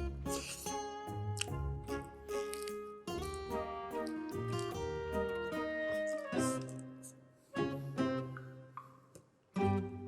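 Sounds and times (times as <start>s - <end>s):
strummed acoustic guitar music: 0.0s - 8.8s.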